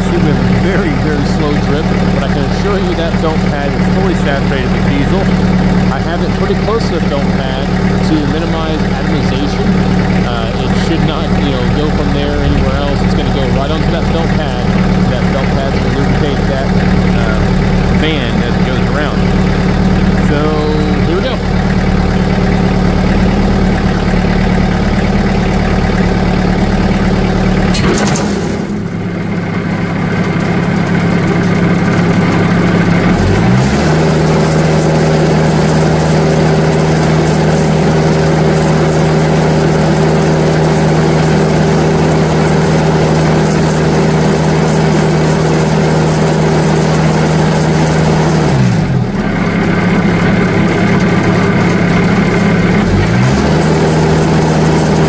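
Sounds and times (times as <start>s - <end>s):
diesel engine running sawmill blade: 0.0s - 55.0s.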